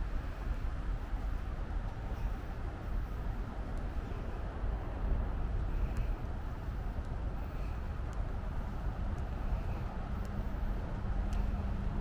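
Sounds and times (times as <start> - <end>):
low rumble of city traffic: 0.0 - 12.0.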